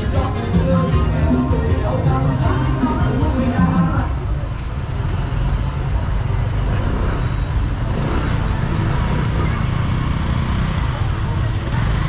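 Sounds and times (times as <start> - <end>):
motorbikes running: 0.0 - 12.0
road noise: 0.0 - 12.0.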